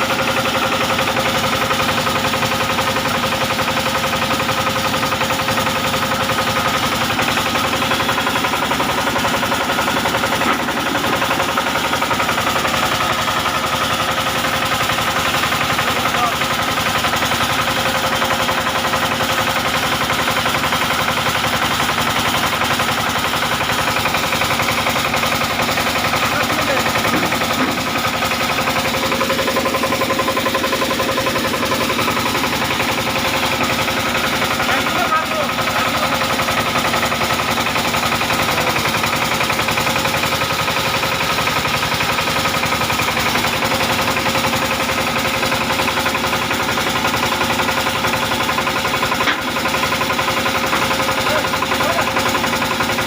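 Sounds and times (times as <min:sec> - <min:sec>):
rice milling machine rattling: 0:00.0 - 0:53.0.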